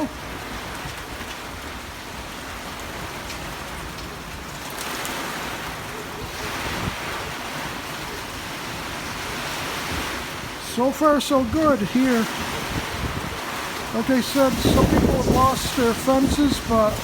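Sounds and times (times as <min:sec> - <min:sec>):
driving rain: 0:00.0 - 0:17.0
hurricane wind: 0:00.0 - 0:17.0.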